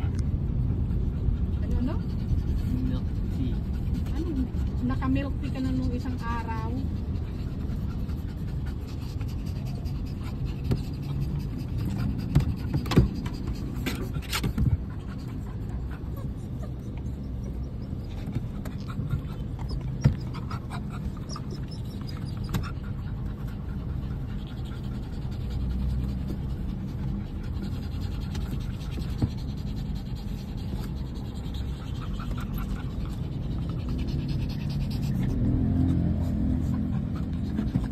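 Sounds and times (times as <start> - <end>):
car cabin road and engine rumble: 0.0 - 37.9.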